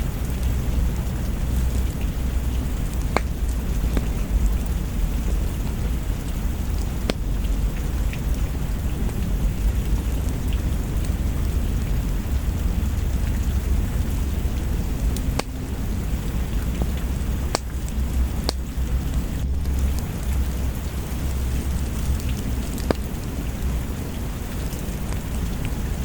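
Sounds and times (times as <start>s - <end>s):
low continuous rumble: 0.0s - 26.0s
steady rain: 0.0s - 26.0s
wood fire crackling: 0.0s - 26.0s.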